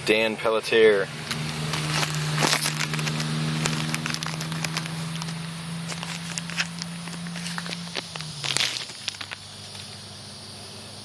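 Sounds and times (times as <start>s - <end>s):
steady low hum: 0.0s - 11.0s
plastic packaging crackling: 1.1s - 10.0s.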